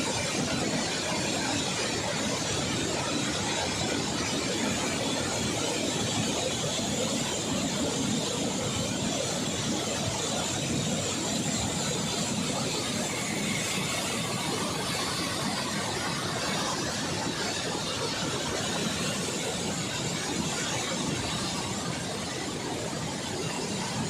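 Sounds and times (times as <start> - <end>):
water rushing through dam spillway: 0.0 - 24.0.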